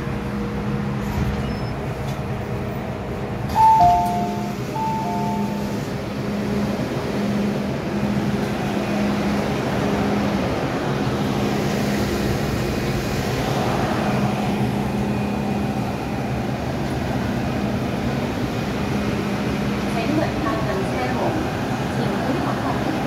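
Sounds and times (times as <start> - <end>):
train equipment humming: 0.0 - 23.0.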